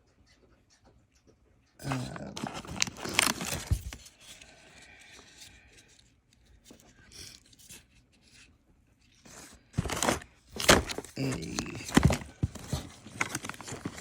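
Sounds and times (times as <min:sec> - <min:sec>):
packaging rustle: 0:01.8 - 0:14.0
rubbing and scraping of toys: 0:01.8 - 0:14.0.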